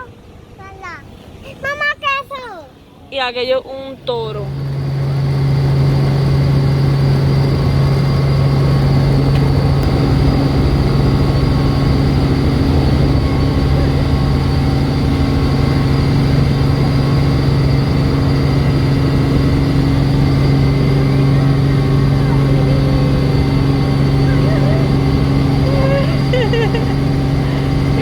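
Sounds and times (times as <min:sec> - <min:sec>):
engine running: 0:04.3 - 0:28.0.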